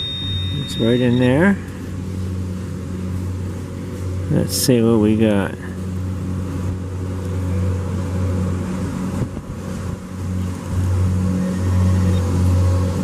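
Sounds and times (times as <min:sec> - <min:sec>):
lawnmower engine running: 0:00.0 - 0:13.0.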